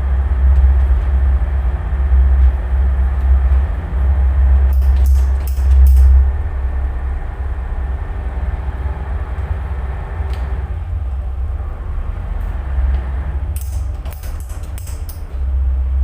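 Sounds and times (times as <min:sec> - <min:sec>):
boat diesel engine rumbling: 0:00.0 - 0:16.0.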